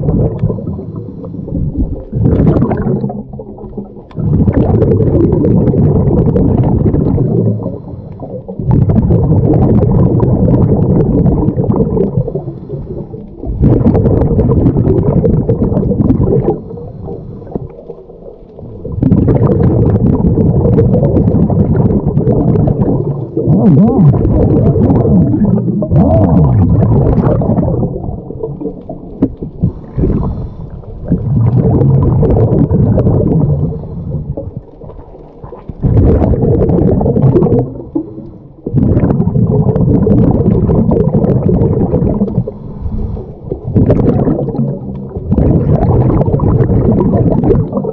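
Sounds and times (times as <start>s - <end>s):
diver exhaling bubbles: 0.0s - 47.9s.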